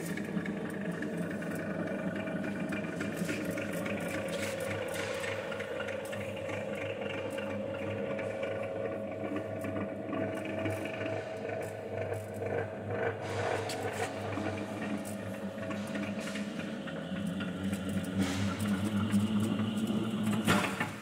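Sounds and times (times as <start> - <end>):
mixer motor and gearbox hum: 0.0 - 21.0.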